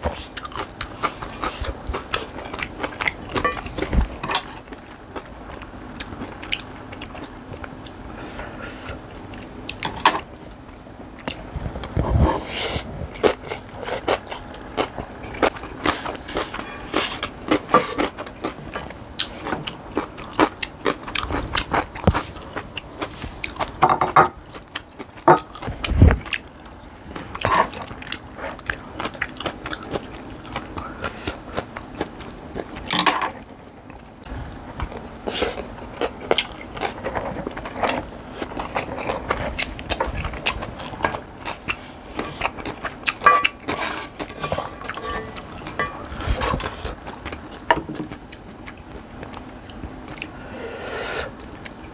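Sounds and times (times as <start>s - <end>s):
person chewing and crunching food: 0.0s - 51.9s.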